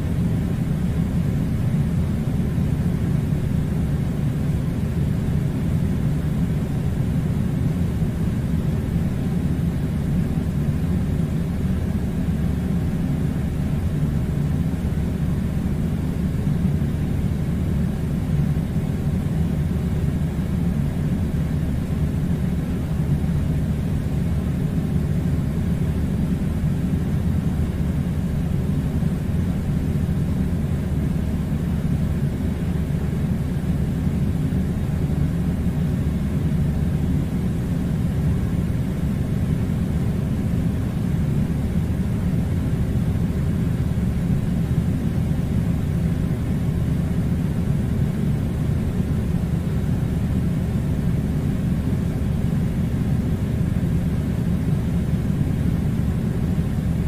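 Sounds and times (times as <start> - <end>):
air conditioner running: 0.0 - 57.0.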